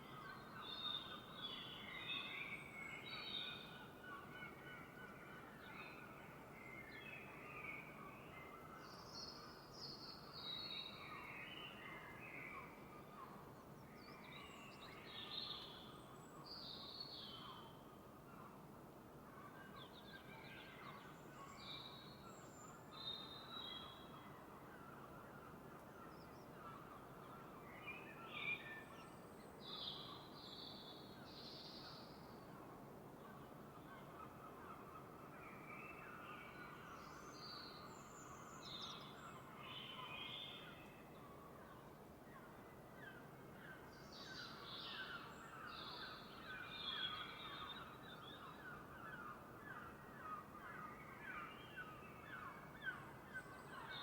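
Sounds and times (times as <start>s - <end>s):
faint steady background hiss: 0.0s - 54.0s.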